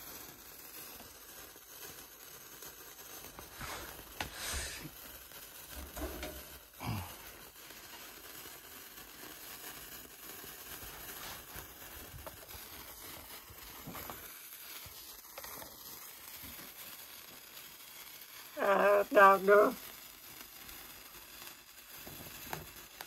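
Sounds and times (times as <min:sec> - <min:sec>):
sparkler fizzing and crackling: 0:00.0 - 0:23.0.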